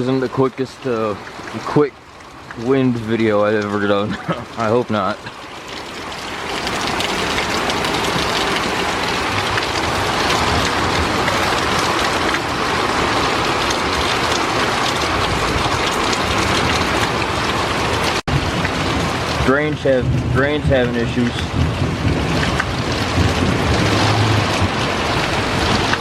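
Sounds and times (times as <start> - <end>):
heavy wind-driven rain: 0.0 - 26.0.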